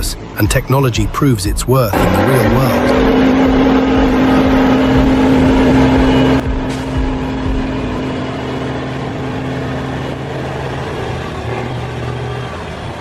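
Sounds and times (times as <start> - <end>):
diesel engine running: 1.9 - 13.0.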